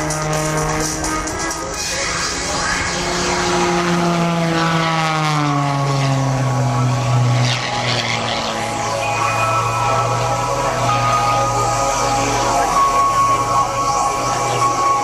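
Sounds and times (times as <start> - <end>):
propeller aircraft passing by: 0.0 - 15.0.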